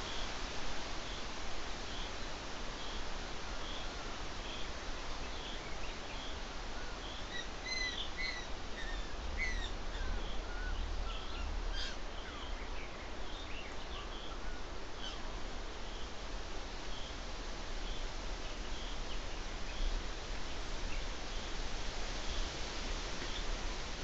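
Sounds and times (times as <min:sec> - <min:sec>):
steady hiss and low rumble: 0:00.0 - 0:24.0.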